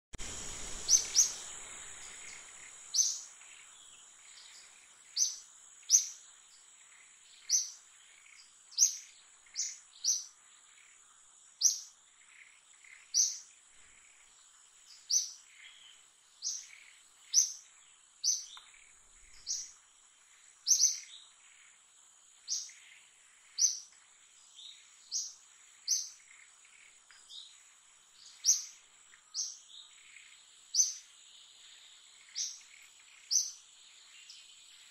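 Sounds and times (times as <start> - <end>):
faint high whine: 0.2 - 34.9.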